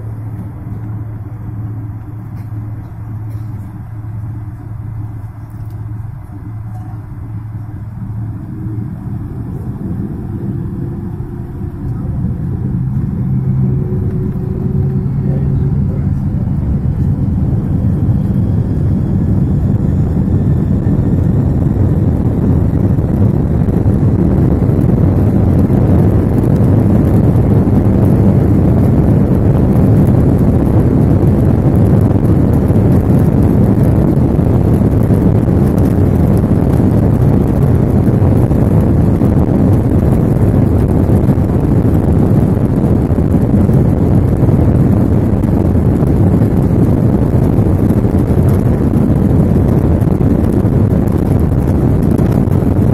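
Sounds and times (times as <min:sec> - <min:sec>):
jet engines rumbling in cabin: 0:00.0 - 0:52.9.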